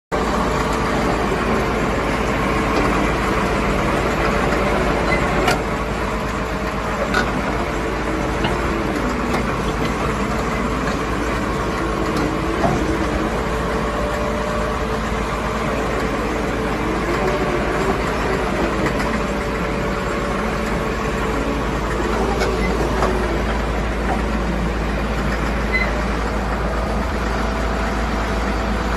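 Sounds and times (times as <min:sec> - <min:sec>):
bulldozer diesel engine running: 0:00.1 - 0:28.9.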